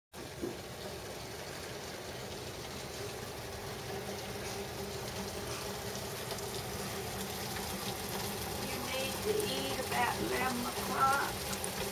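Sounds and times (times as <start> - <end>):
heavy rain pouring: 0.2 - 11.9.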